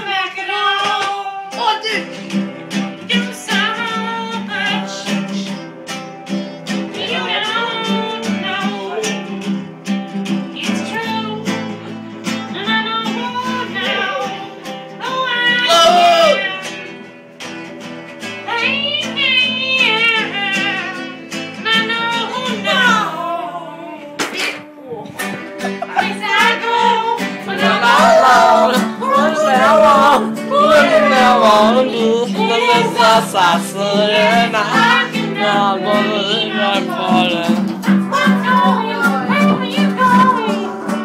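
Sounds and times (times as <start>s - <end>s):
guitar strumming: 0.1s - 41.0s
person singing: 2.7s - 9.8s, 10.4s - 17.0s, 18.3s - 41.0s.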